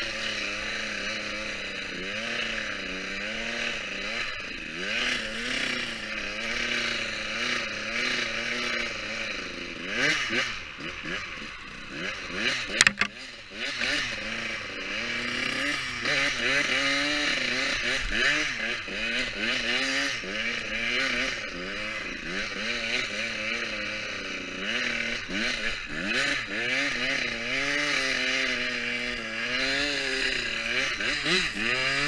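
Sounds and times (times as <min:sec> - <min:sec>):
motocross bike engine revving: 0:00.0 - 0:32.0.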